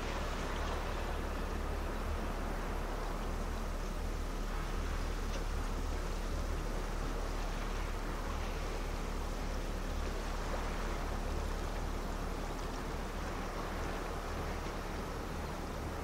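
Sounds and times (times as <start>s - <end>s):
distant ship engine drone: 0.0s - 16.0s
small waves lapping on shore: 0.0s - 16.0s.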